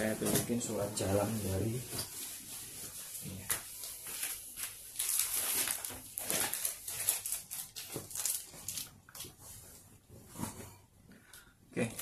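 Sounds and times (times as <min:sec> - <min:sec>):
plastic sleeve and papers rustling: 0:00.0 - 0:10.8.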